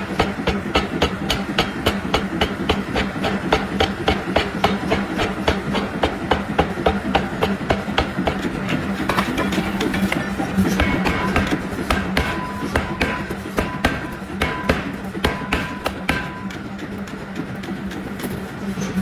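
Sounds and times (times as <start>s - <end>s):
power hammer striking metal: 0.0s - 16.8s.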